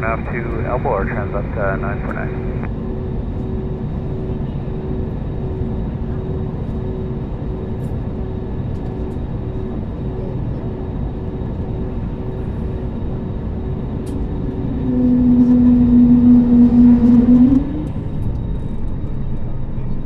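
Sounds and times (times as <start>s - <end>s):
steady jet engine tone: 0.0s - 8.2s, 9.3s - 19.6s
airliner cabin rumble: 0.0s - 20.0s.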